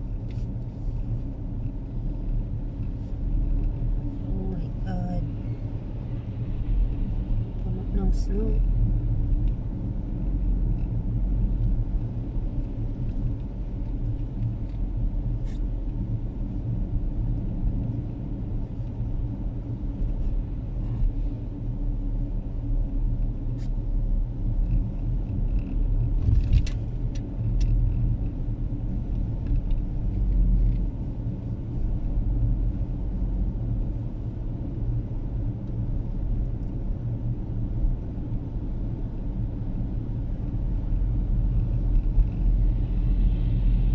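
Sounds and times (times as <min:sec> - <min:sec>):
car cabin rumble: 0:00.0 - 0:43.9.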